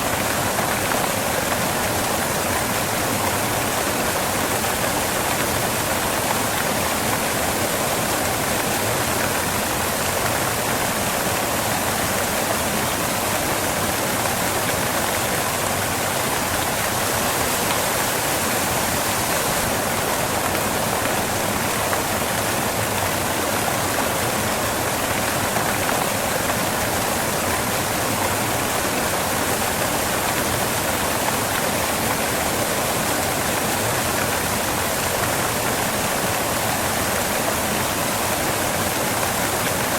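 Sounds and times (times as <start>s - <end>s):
waterfall crashing on rocks: 0.0s - 39.9s.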